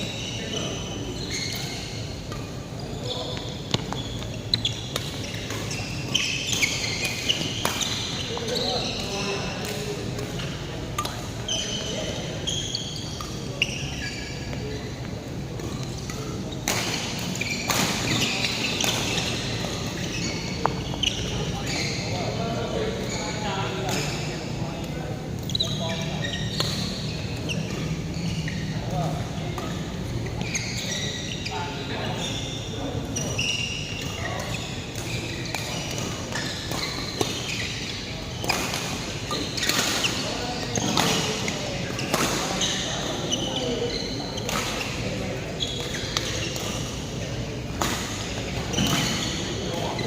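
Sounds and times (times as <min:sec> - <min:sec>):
shoes squeaking on court floor: 0:00.0 - 0:50.0
sports hall noise: 0:00.0 - 0:50.0.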